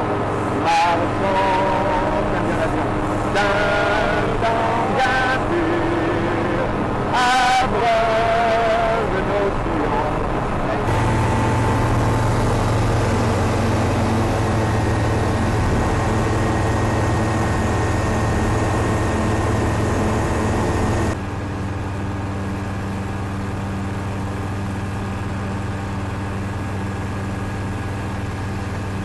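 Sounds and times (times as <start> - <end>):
light aircraft engine droning: 0.0 - 29.0.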